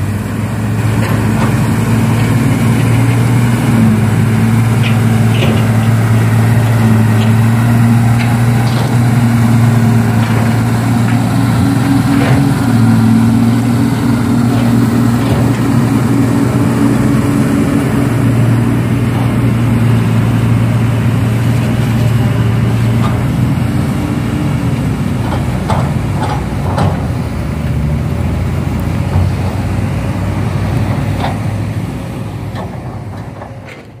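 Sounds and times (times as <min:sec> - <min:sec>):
engine running with low hum: 0:00.0 - 0:34.0.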